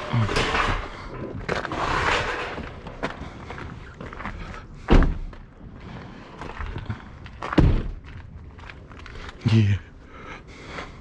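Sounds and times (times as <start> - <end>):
footsteps: 0.0 - 9.4.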